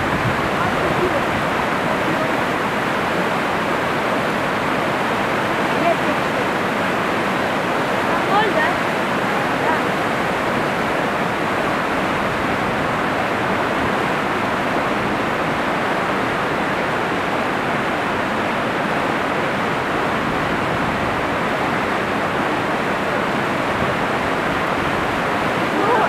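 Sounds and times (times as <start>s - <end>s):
river rushing through rapids: 0.0s - 26.0s.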